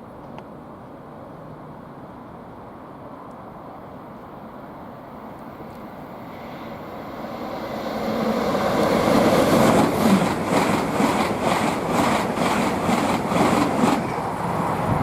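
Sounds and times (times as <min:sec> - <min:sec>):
train passing: 0:01.5 - 0:15.0.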